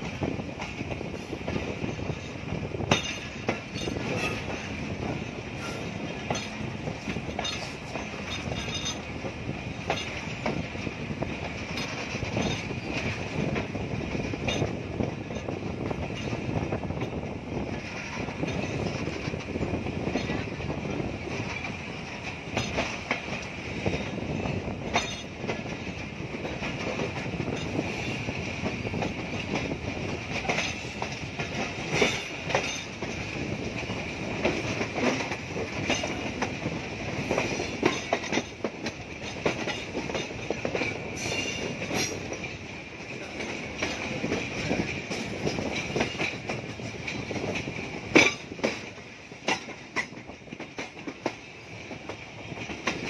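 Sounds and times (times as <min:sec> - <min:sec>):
train wheels rolling on rail: 0:00.0 - 0:53.0
wheels clattering over rail joints: 0:00.0 - 0:53.0.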